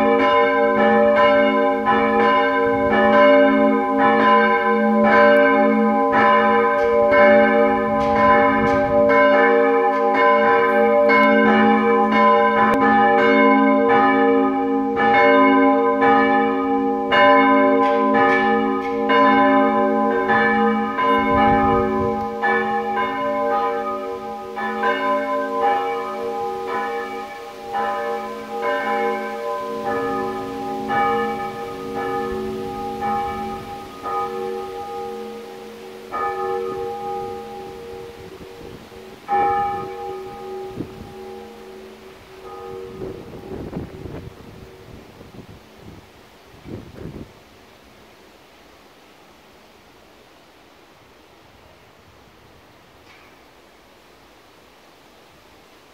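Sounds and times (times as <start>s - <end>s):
church bells ringing: 0.0s - 45.7s.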